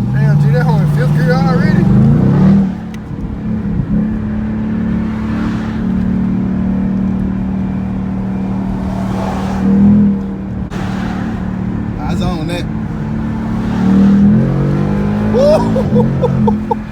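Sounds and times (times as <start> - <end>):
car engine from cabin: 0.0 - 16.9.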